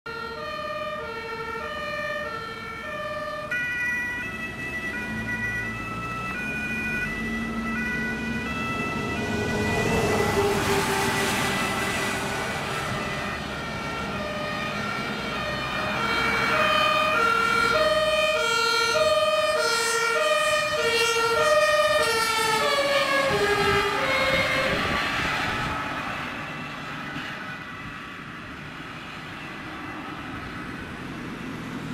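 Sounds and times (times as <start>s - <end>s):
two-tone emergency sirens: 0.1s - 31.0s
passing road traffic: 0.1s - 31.9s.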